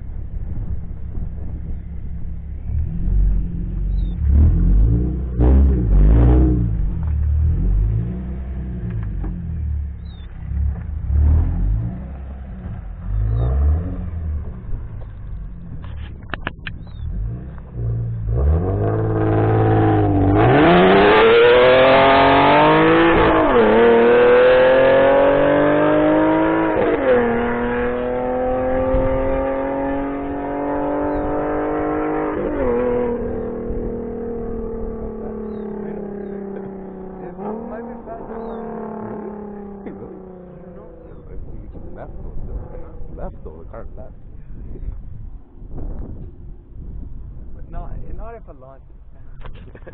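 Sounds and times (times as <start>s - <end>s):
car exhaust accelerating: 0.0s - 49.9s.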